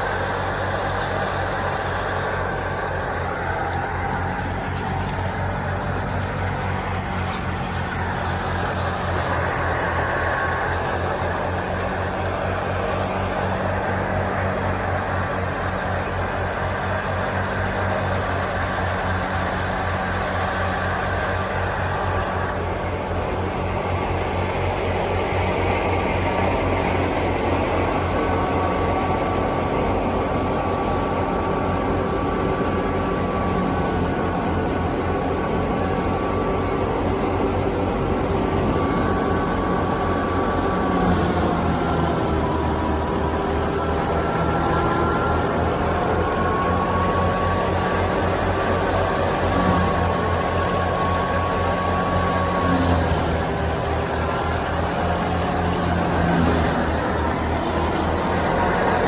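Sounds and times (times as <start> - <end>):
thresher machinery whine: 0.0 - 59.0
tractor diesel engine running: 0.0 - 59.0.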